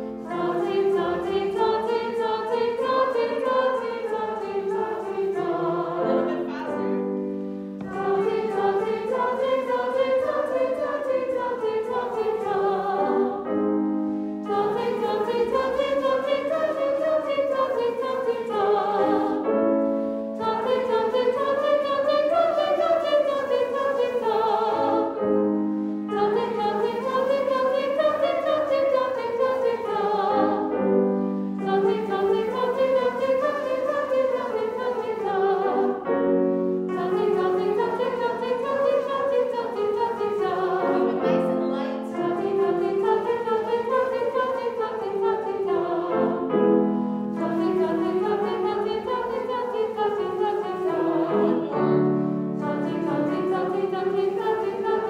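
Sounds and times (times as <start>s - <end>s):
choir singing vocalise: 0.0s - 55.0s
piano accompaniment: 0.0s - 55.0s.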